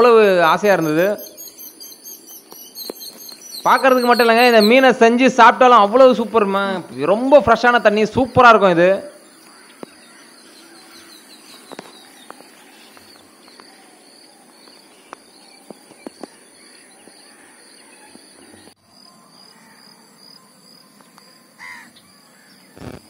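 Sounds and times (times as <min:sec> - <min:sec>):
faint birds: 0:00.0 - 0:23.0
insects droning and chirping: 0:00.0 - 0:23.0.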